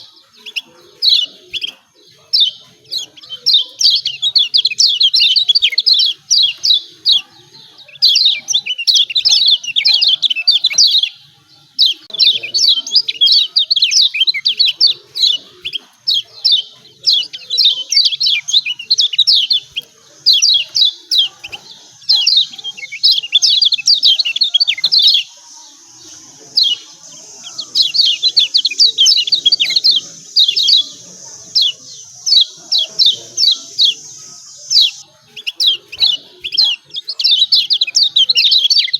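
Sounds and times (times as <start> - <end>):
bird sharp chirping calls: 0.0 - 38.9.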